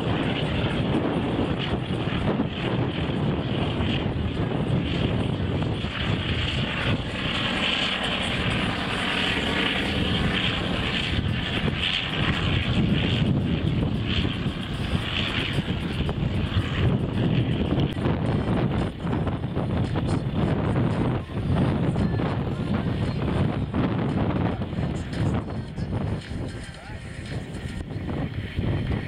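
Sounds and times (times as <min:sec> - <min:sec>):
aircraft engine drone: 0:00.0 - 0:29.0.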